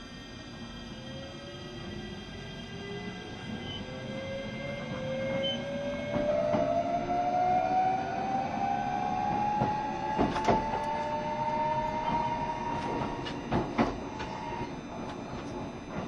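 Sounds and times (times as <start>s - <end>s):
electric train motor whine: 0.0s - 16.0s
train wheels rumbling on rail: 1.1s - 16.0s.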